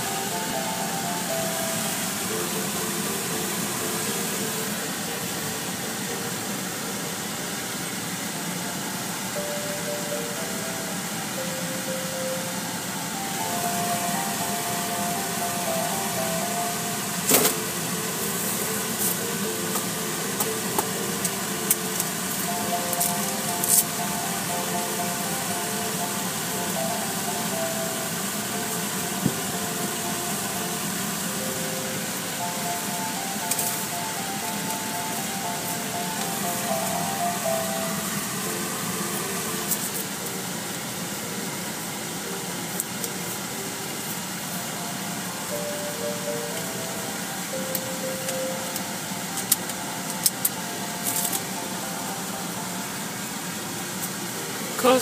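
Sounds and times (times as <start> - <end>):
faint music: 0.0 - 55.0
ventilation hiss in a car: 0.0 - 55.0.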